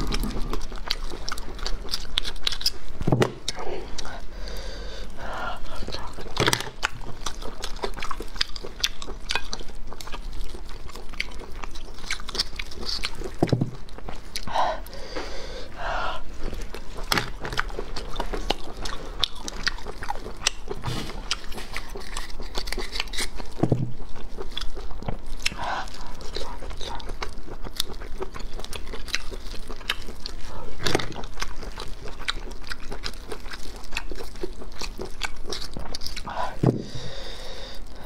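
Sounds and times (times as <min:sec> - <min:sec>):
close chewing and biting: 0:00.0 - 0:38.0.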